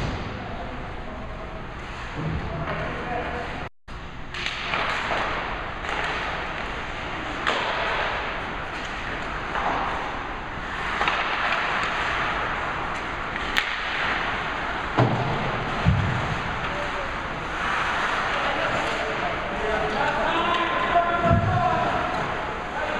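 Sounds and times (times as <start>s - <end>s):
hockey sticks and puck clacking: 4.3s - 22.9s.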